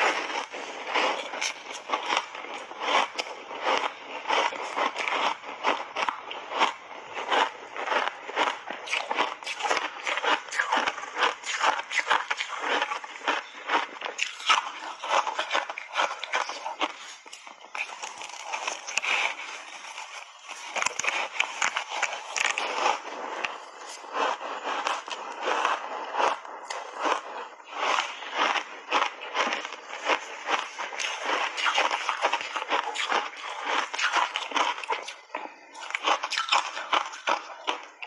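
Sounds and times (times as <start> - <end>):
ice being bitten and chewed: 0.0 - 38.0.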